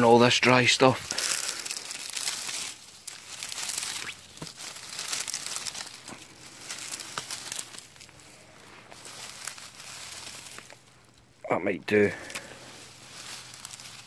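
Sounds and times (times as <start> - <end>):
stems snapping: 0.0 - 11.3, 12.1 - 14.0
dry ferns rustling and crackling: 0.0 - 14.0.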